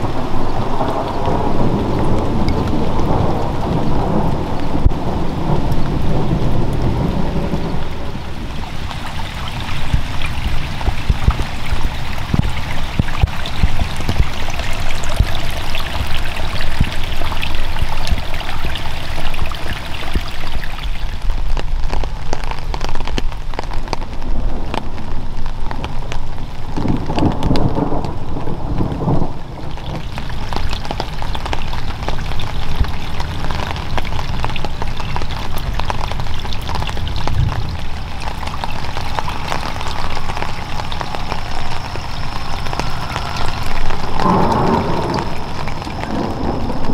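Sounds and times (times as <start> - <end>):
steady rain falling: 0.0 - 46.9
thunder rumble: 0.0 - 46.9.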